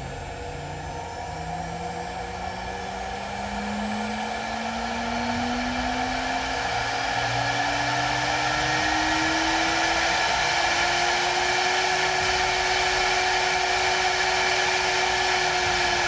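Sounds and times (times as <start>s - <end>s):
spindle whining at high speed: 0.0s - 16.0s.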